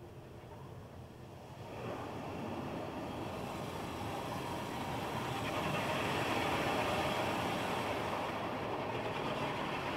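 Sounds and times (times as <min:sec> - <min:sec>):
car wash machinery rushing: 0:01.4 - 0:09.9.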